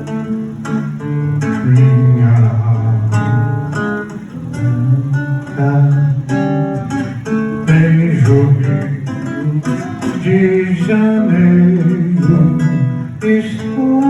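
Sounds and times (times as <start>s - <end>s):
acoustic guitars playing samba: 0.0s - 14.0s.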